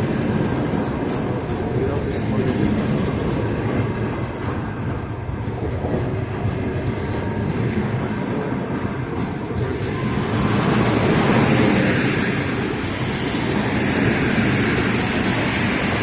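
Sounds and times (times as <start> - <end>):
faint rail clacks: 0.0 - 16.0
train wheels rumbling on rails: 0.0 - 16.0.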